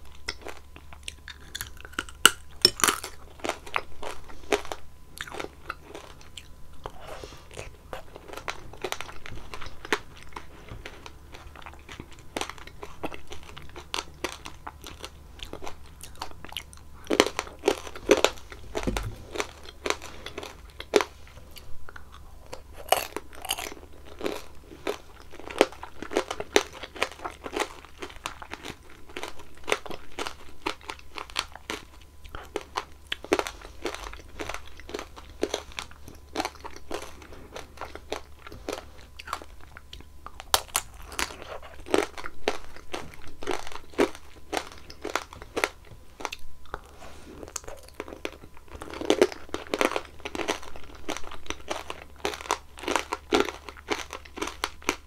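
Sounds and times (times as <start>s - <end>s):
candy shell crunching: 0.0s - 55.0s
wet chewing: 0.0s - 55.0s.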